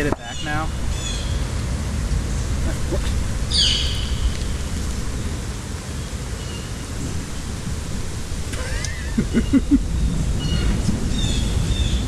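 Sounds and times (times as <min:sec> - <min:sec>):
bright rustle: 0:00.0 - 0:12.0
low rumble and hiss: 0:00.0 - 0:12.0.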